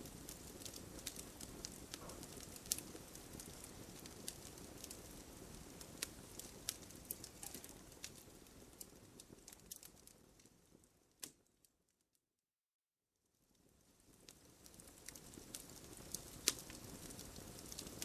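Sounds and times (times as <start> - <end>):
sharp fire pops: 0.0 - 10.6, 14.1 - 18.0
wood campfire crackling: 0.0 - 11.8, 13.4 - 18.0.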